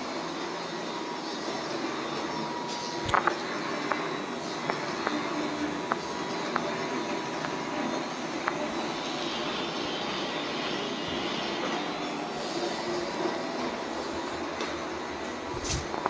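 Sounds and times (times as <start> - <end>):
robot vacuum cleaner whirring: 0.0 - 16.0.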